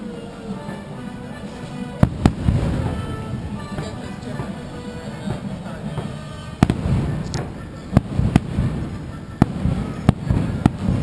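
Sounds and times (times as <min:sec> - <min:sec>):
fireworks bursting with bangs: 0:01.8 - 0:11.0.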